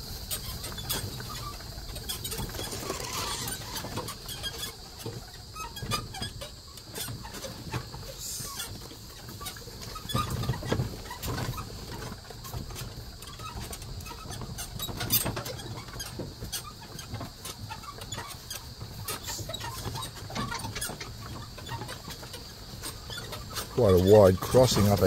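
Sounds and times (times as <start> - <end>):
cart knocking and rattling: 0.0 - 25.0.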